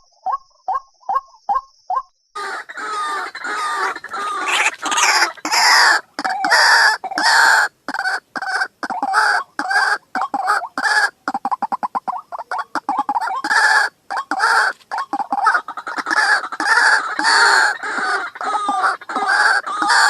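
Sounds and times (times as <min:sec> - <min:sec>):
waterhen calling: 0:02.4 - 0:20.0.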